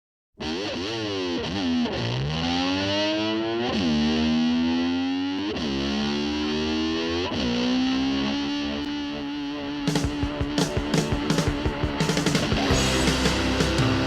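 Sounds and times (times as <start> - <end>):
distorted electric slide guitar: 0.4 - 14.0.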